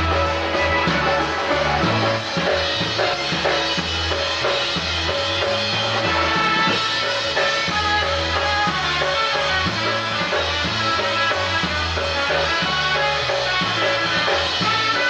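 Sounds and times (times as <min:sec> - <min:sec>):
bass line: 0:00.0 - 0:15.0
drum kit beat: 0:00.0 - 0:15.0
polka band playing: 0:00.0 - 0:15.0.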